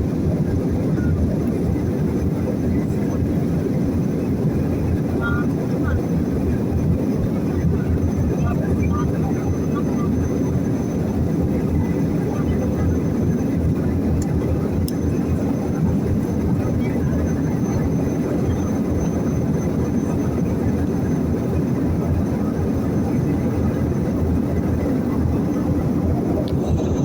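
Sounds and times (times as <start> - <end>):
jet engines roaring in cabin: 0.0 - 27.0.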